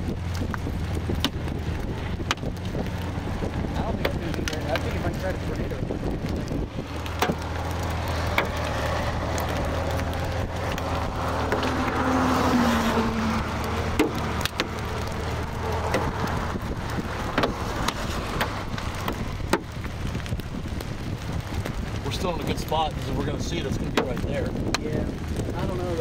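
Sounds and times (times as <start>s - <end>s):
car engine hum: 0.0s - 26.0s
road and wind noise: 0.0s - 26.0s.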